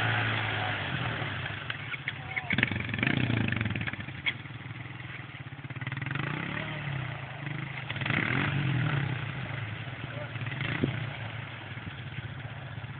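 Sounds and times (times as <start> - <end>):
atv engines running: 0.0 - 12.9.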